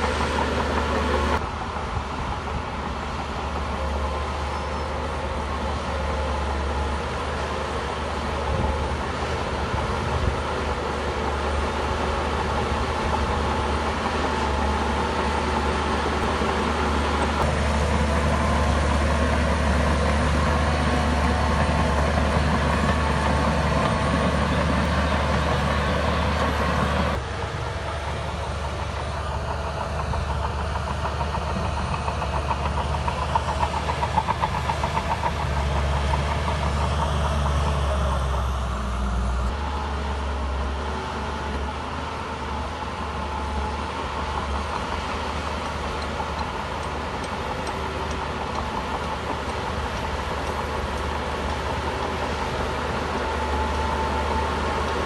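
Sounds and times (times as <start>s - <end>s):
bulldozer diesel engine: 0.0s - 55.0s
steel tracks clanking: 0.0s - 55.0s.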